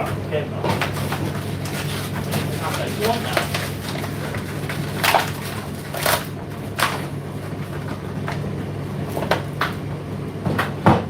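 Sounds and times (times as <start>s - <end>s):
tumble dryer humming: 0.0s - 11.0s.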